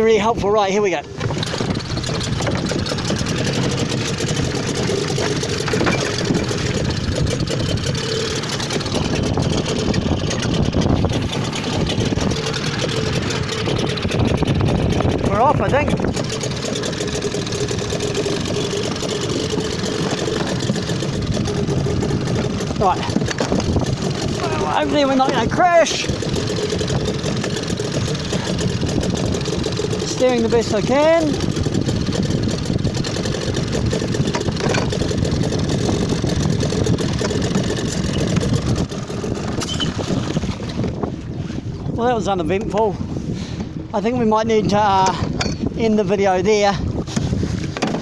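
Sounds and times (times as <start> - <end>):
outboard motor running rough: 0.0 - 48.0
engine backfiring: 1.1 - 41.0.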